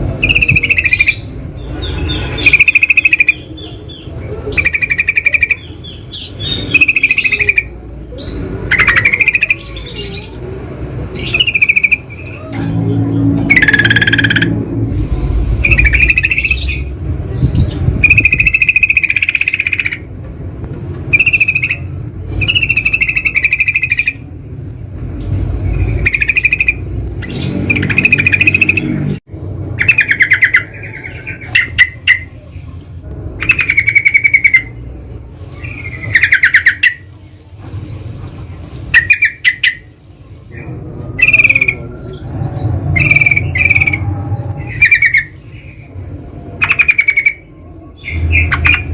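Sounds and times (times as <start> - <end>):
bulbuls chattering: 0.0 - 48.9
steady low rumble: 0.0 - 48.9.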